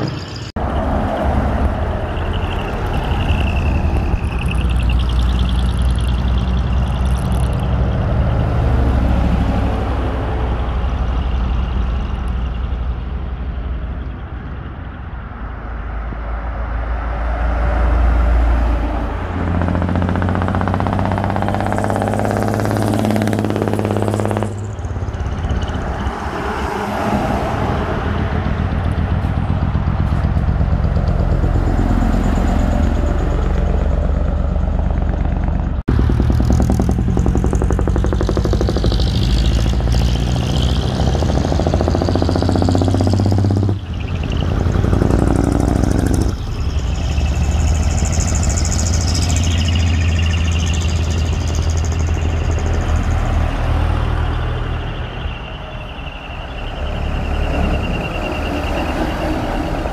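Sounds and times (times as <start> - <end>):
diesel trucks driving past: 0.0 - 59.9.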